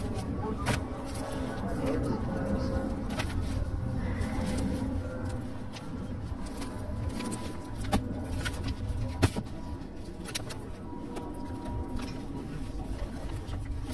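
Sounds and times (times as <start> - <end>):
low outdoor rumble: 0.0 - 13.9.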